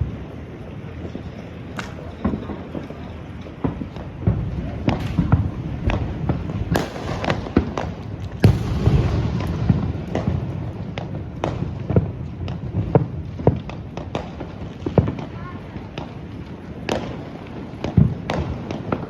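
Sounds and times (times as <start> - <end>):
fireworks and firecrackers banging: 0.0 - 19.0
loud blasts with crackle: 0.0 - 19.0.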